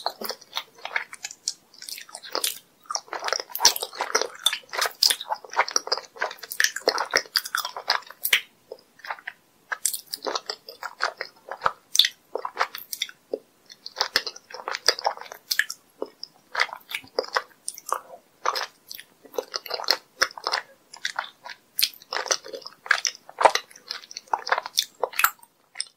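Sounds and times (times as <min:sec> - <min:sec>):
person chewing and sucking jelly: 0:00.0 - 0:25.9.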